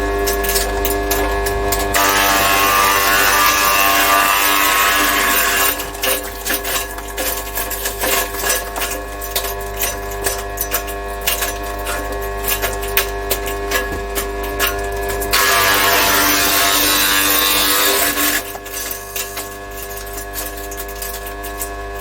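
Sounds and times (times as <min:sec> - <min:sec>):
wood chipper running: 0:00.8 - 0:22.0
wood chipper shredding: 0:01.4 - 0:22.0.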